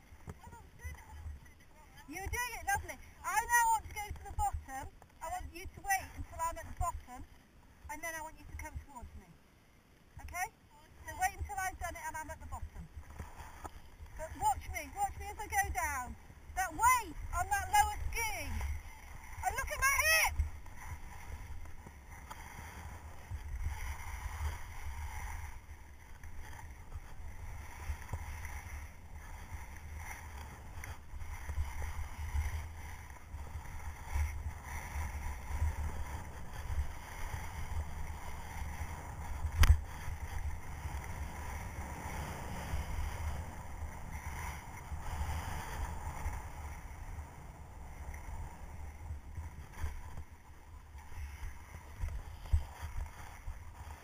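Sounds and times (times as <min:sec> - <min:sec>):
skis scraping over snow: 0:00.0 - 0:09.3, 0:10.0 - 0:54.0
wind rumbling on microphone: 0:00.0 - 0:09.3, 0:10.1 - 0:54.0.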